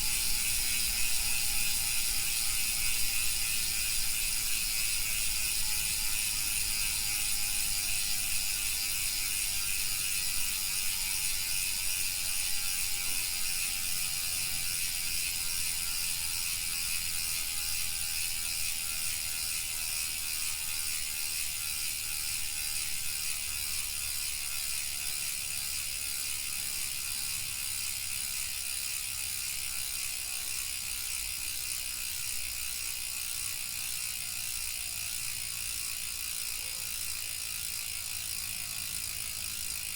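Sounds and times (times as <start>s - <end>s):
bicycle freehub ticking: 0.0s - 39.9s.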